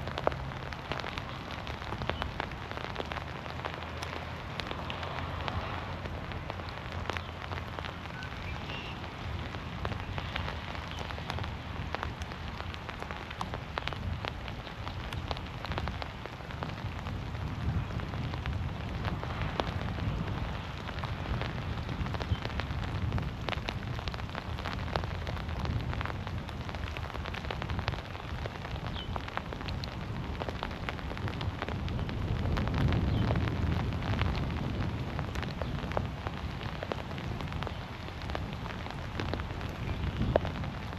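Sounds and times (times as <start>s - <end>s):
heavy rain falling through trees: 0.0s - 40.9s.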